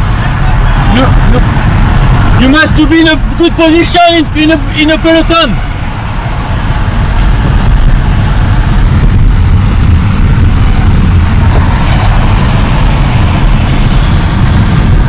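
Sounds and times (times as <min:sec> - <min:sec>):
car road and engine noise: 0:00.0 - 0:15.0
wind buffeting through car window: 0:00.0 - 0:15.0.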